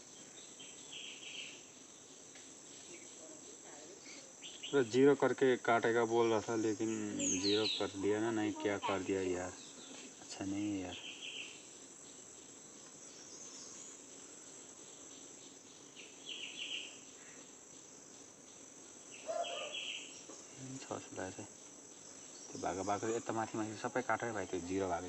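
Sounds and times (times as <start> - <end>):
insects chorus: 0.0 - 25.0.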